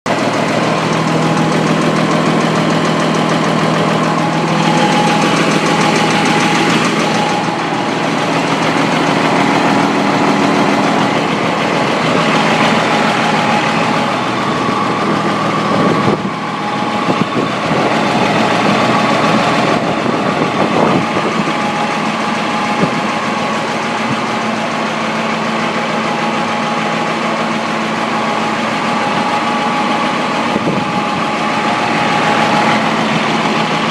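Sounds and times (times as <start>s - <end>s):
engine knocking: 0.1s - 33.9s
truck engine running: 0.1s - 33.9s.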